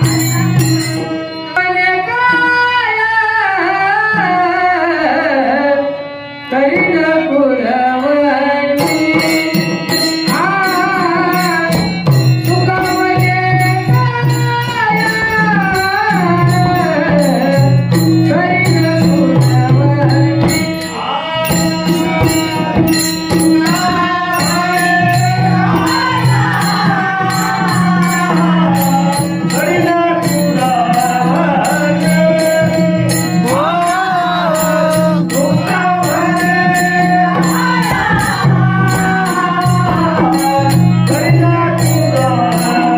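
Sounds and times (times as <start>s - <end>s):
rhythmic percussion: 0.0s - 5.6s, 8.7s - 42.9s
harmonium drone: 0.0s - 42.9s
man singing: 1.5s - 42.9s.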